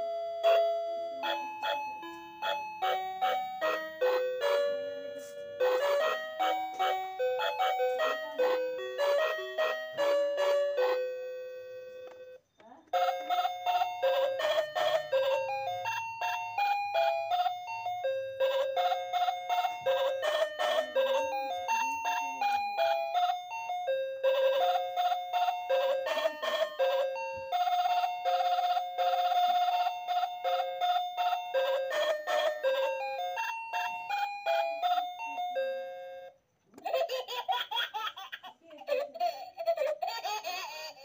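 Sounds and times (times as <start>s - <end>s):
bell-toned melody: 0.0s - 36.4s.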